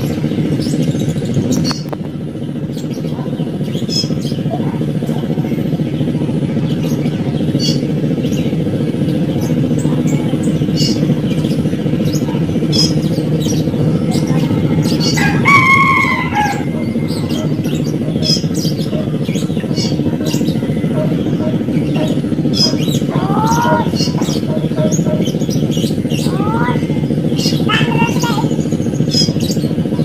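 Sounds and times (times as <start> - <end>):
birds chirping: 0.0 - 30.0
drawn-out bird call: 0.0 - 30.0
steady low hum: 0.0 - 30.0.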